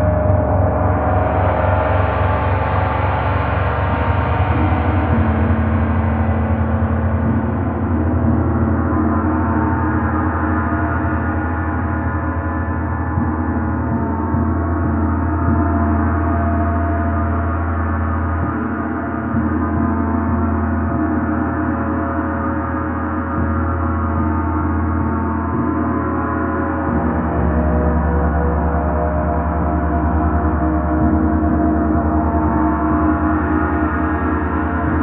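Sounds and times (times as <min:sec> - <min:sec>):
gong sustained wash: 0:00.0 - 0:35.0.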